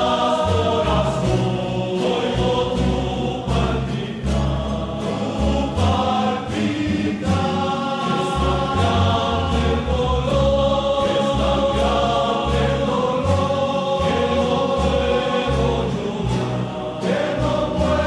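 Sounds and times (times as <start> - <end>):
chorus of voices singing: 0.0 - 18.0.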